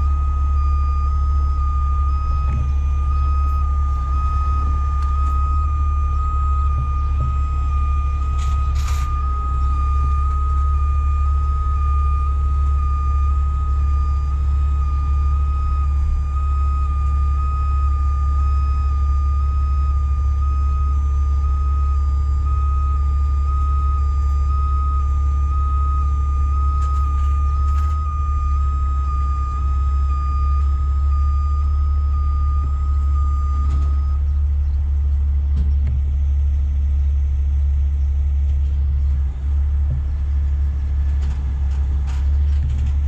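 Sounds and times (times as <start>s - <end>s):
diesel engine running: 0.0s - 43.0s
hydraulic whine: 0.0s - 43.0s.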